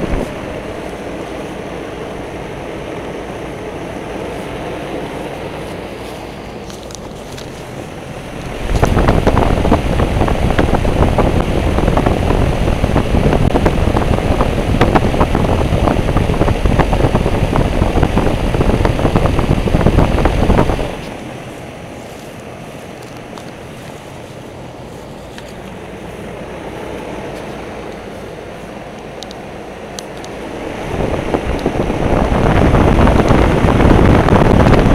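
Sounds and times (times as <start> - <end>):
fan wind noise on microphone: 0.0 - 34.9.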